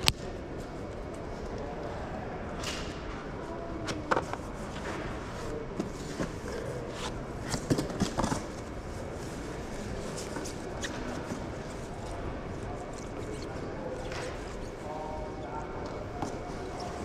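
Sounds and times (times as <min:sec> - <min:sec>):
indoor hall background noise: 0:00.0 - 0:17.0.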